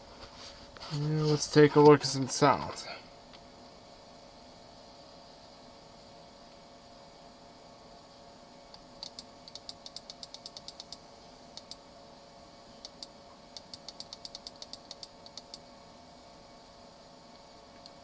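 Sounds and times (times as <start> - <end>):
faint machine hum: 0.0 - 18.0.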